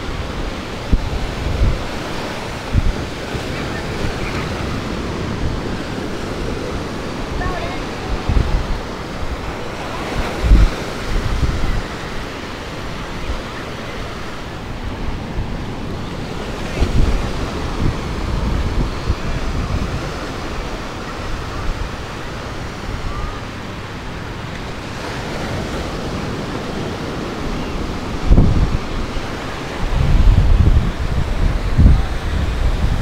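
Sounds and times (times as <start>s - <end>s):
ocean surf washing onto beach: 0.0s - 33.0s
wind gusting against microphone: 0.0s - 33.0s.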